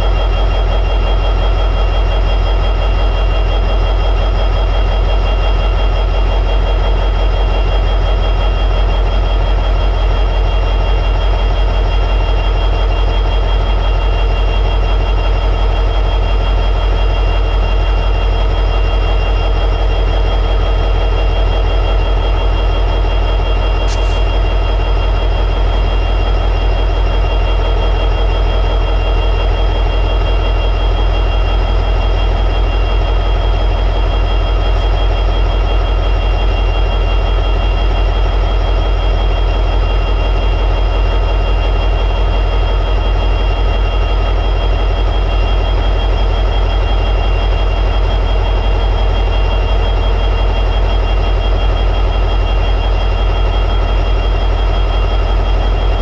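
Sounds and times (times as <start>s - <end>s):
diesel locomotive engine idling: 0.0s - 56.0s.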